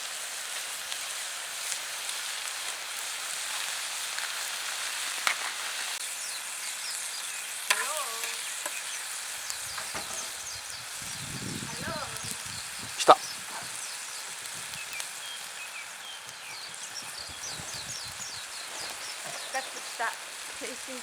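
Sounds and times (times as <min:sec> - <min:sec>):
food sizzling on a griddle: 0:00.0 - 0:21.0.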